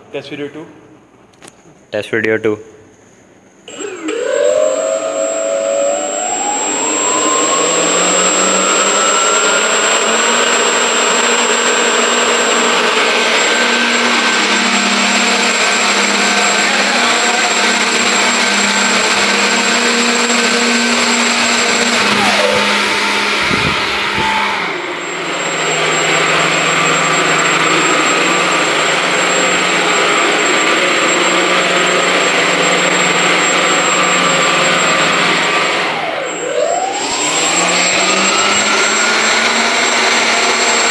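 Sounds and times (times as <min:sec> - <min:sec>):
electric motors and propellers whirring: 0:03.7 - 0:40.9.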